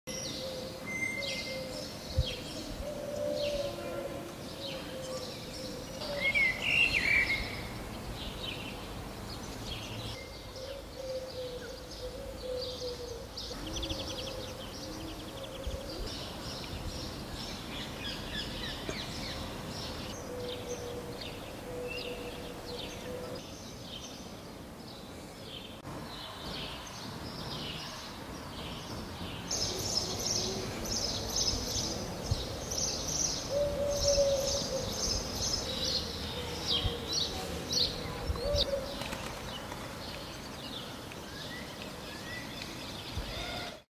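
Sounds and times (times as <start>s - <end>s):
quiet urban background: 0.1s - 43.9s.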